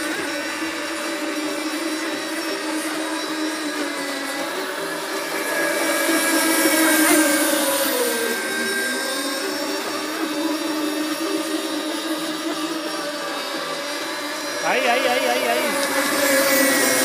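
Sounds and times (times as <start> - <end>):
model boat engine whining: 0.0 - 17.0.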